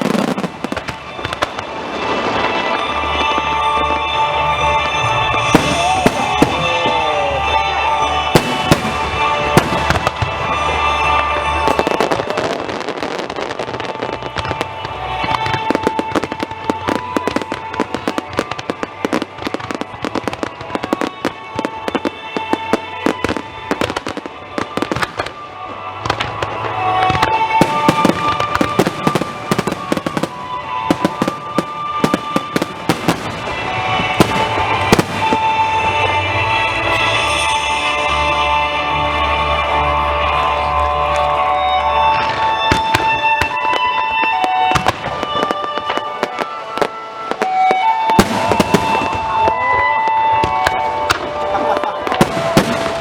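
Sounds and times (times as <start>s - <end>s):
fireworks cracking and popping: 0.0s - 40.4s, 41.1s - 53.0s
music with held tones: 0.0s - 53.0s.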